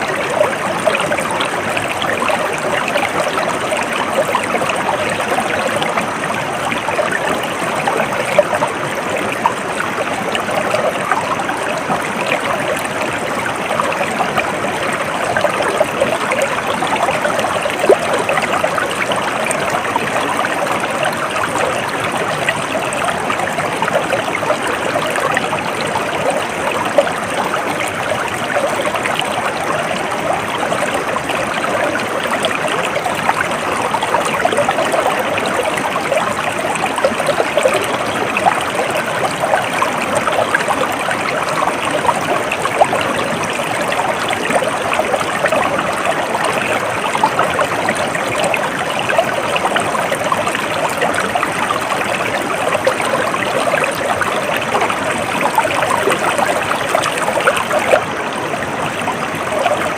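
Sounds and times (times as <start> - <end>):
stream babbling over stones: 0.0 - 59.9.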